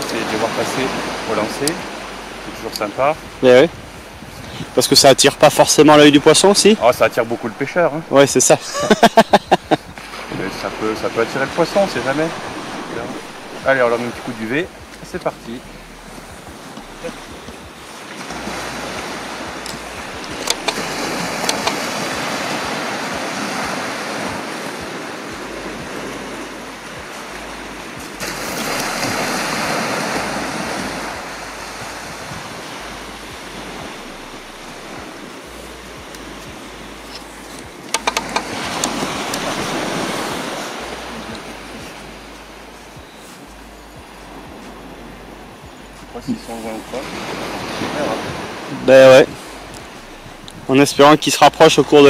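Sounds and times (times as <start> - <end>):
sea waves breaking on beach: 0.0 - 52.0.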